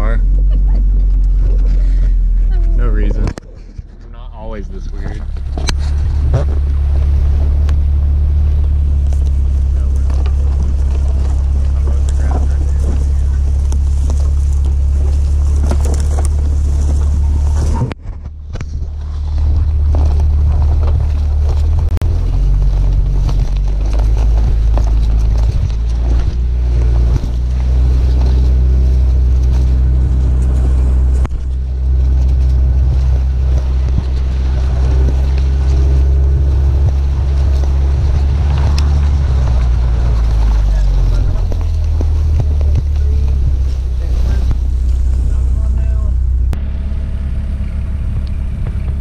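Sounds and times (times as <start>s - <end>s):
car engine and exhaust drone: 0.0s - 49.0s
wind rumbling on microphone: 0.0s - 49.0s.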